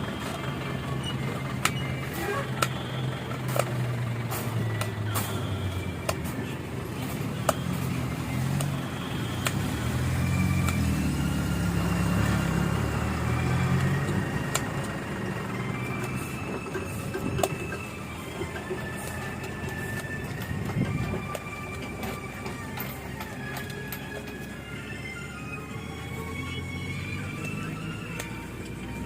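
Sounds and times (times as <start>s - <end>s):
road noise: 0.0s - 29.0s
vehicle engine running: 0.0s - 29.0s.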